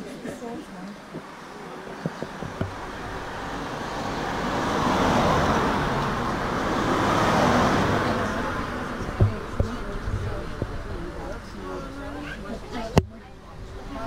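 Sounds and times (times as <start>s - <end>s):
road traffic passing: 0.6s - 14.0s.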